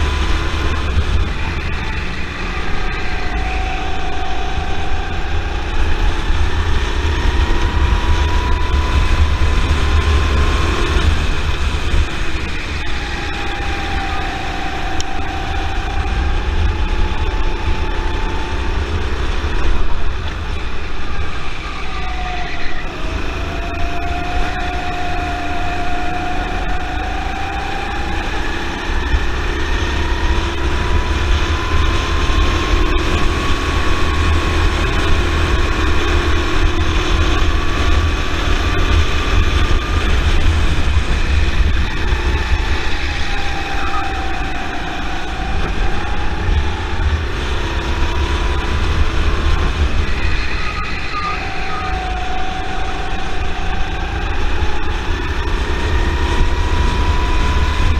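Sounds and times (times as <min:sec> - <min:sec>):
go-kart engine: 0:00.0 - 0:57.9
wind rumble on microphone: 0:00.0 - 0:57.9.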